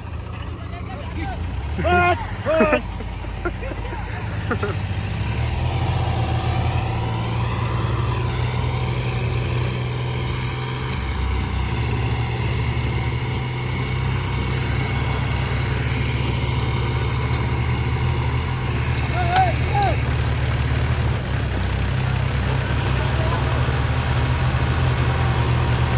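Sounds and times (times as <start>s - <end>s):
diesel tractor engine running: 0.0s - 25.9s.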